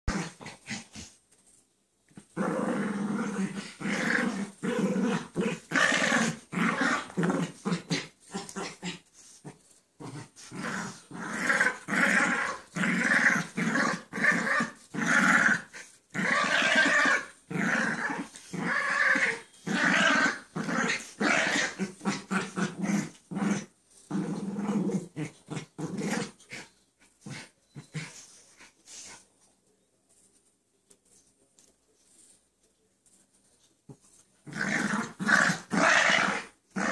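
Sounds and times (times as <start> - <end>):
dogs play-growling: 2.1 - 29.2, 34.4 - 36.9.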